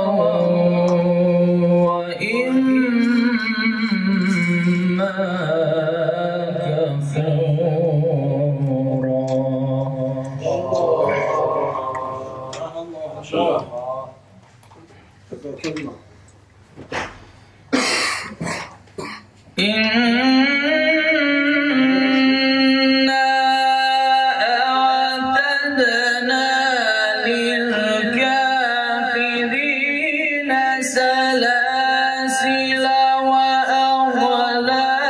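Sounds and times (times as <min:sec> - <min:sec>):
man chanting melodic recitation: 0:00.0 - 0:14.3, 0:19.6 - 0:35.0.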